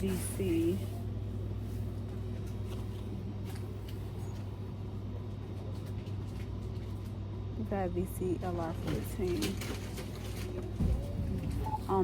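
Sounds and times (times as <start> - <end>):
store background hum: 0.0 - 12.0.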